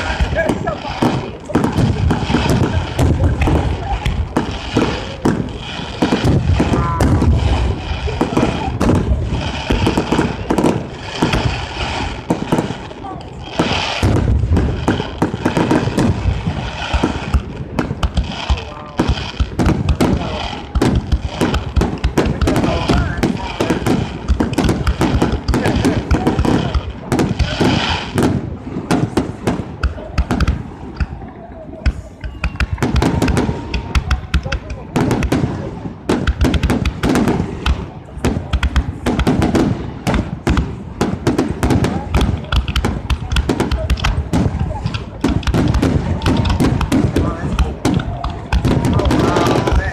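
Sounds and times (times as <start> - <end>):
crowd voices: 0.0 - 49.9
firework bangs and crackling: 0.0 - 49.9.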